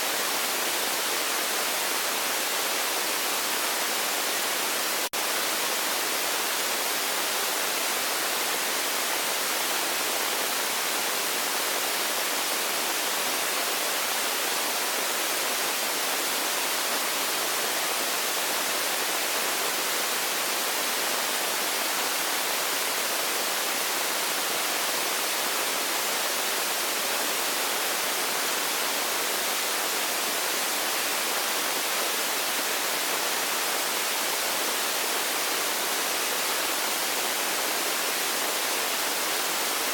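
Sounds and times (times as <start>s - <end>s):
steady static hiss: 0.0s - 39.9s.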